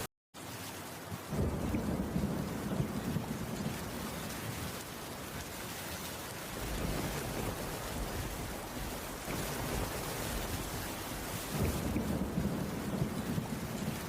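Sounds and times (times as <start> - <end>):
heavy rain hissing: 0.4 - 14.0.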